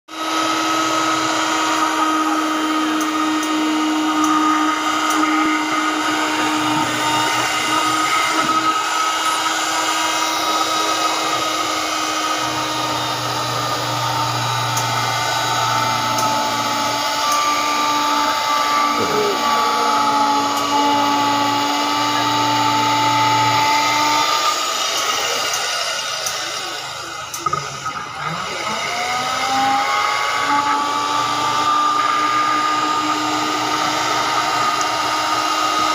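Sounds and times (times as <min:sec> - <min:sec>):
cloth cutting machine whine: 0:00.1 - 0:35.9.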